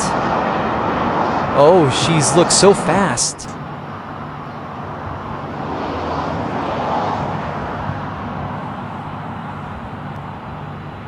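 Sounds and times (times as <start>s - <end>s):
fast train passing: 0.0s - 11.0s.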